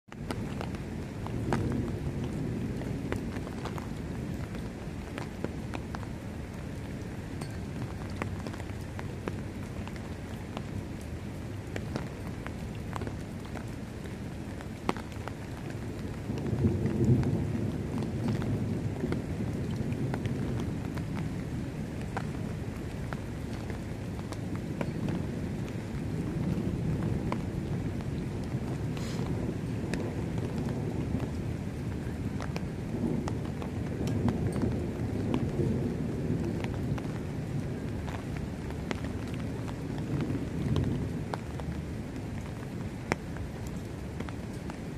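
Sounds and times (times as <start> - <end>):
steady rain: 0.0 - 44.9
low rumble of thunder: 0.2 - 44.9.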